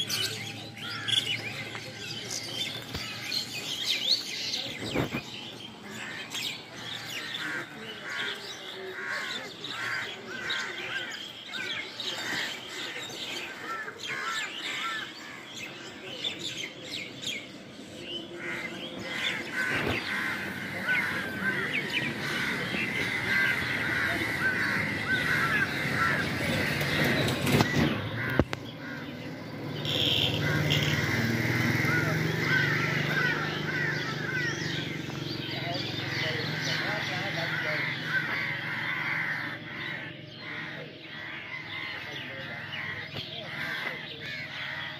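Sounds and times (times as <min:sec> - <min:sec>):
flock of birds chirping: 0:00.0 - 0:44.9.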